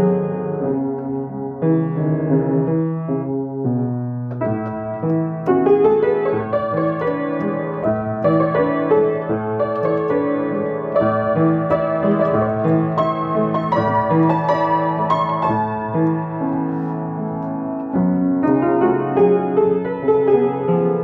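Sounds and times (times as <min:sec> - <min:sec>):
solo piano piece: 0:00.0 - 0:21.0.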